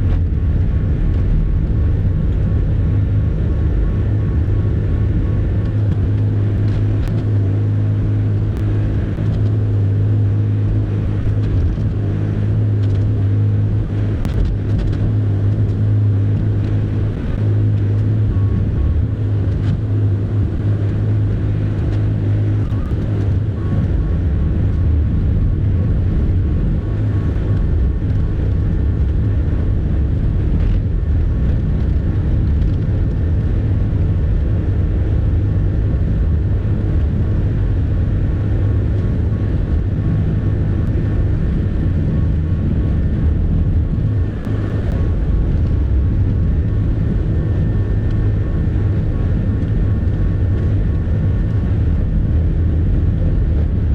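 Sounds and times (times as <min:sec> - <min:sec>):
faint high whine: 0:00.0 - 0:53.9.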